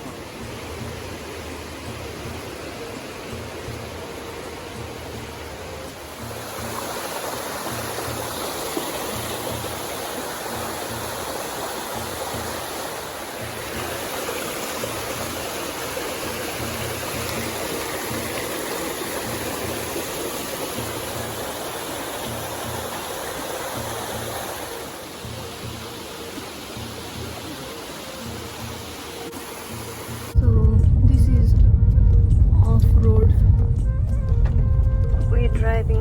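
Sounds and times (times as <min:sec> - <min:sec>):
rushing river water: 0:00.0 - 0:36.0.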